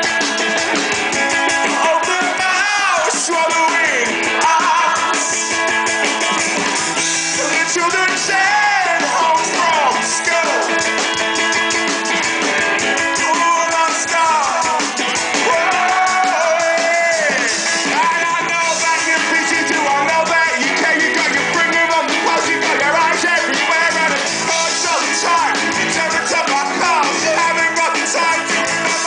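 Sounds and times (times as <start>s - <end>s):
drum kit: 0.0s - 29.0s
electric guitars: 0.0s - 29.0s
lead vocal singing: 1.6s - 5.8s, 7.3s - 10.9s, 13.2s - 29.0s.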